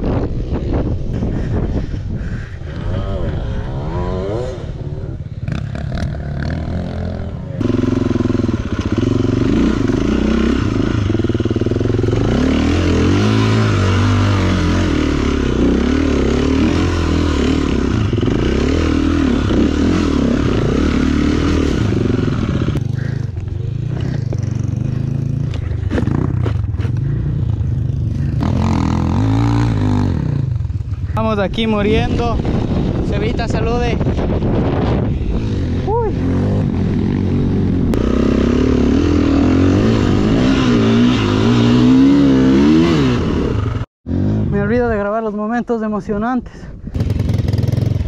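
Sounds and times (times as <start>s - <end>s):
dirt bike engine revving: 2.7s - 31.2s, 34.1s - 44.7s, 46.9s - 48.0s.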